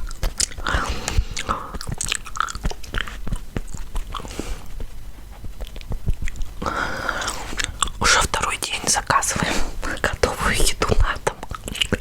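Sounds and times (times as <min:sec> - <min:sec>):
gum chewing: 0:00.0 - 0:12.0.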